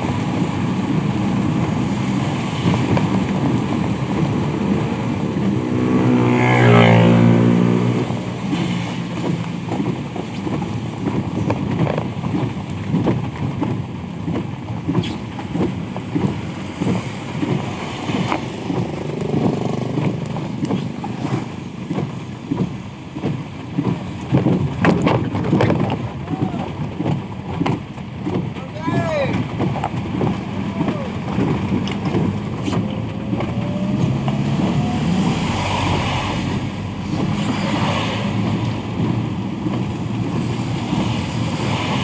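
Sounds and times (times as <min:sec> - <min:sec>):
vehicle passing close: 0:00.0 - 0:11.3, 0:16.2 - 0:26.8, 0:28.7 - 0:42.0
rain: 0:00.0 - 0:42.0
traffic on wet road: 0:00.0 - 0:42.0.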